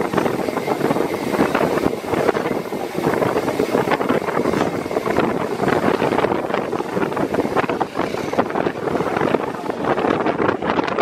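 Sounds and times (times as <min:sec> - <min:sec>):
train wheels on track: 0:00.0 - 0:11.0
wind buffeting microphone: 0:00.0 - 0:11.0.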